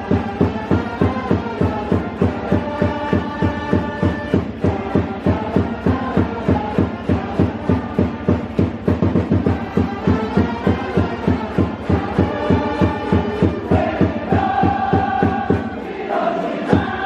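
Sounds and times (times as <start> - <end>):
drum beaten in fast rhythm: 0.0 - 17.0.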